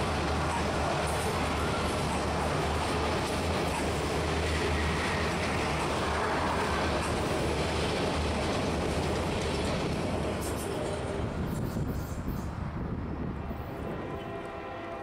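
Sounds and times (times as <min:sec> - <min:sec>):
freight train wheels on rail: 0:00.0 - 0:15.0.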